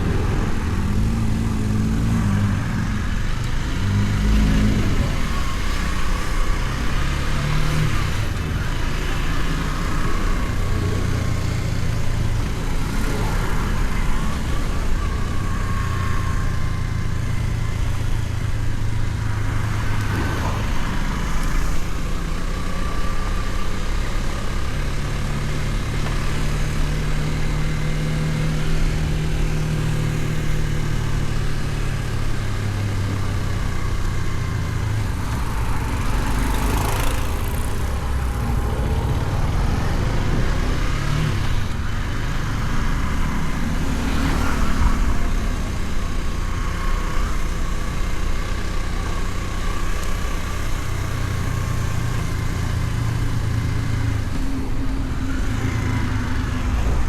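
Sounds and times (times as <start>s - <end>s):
motorcycle engine cruising: 0.0s - 57.0s
wind and road noise: 0.0s - 57.0s.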